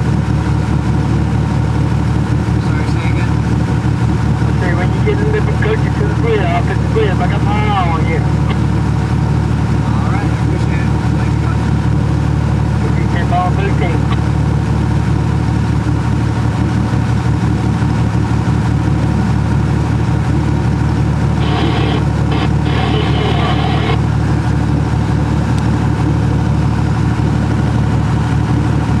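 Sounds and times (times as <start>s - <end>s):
boat motor running: 0.0s - 29.0s.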